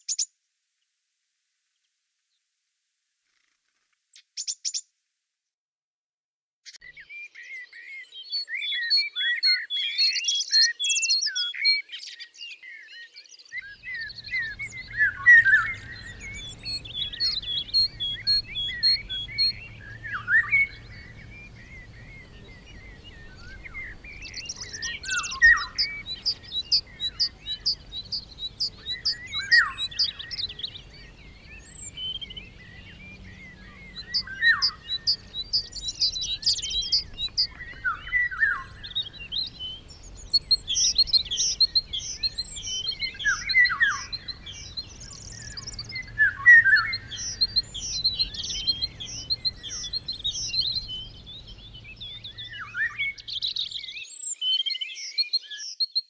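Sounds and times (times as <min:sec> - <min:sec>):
songbirds singing: 0:06.7 - 0:56.0.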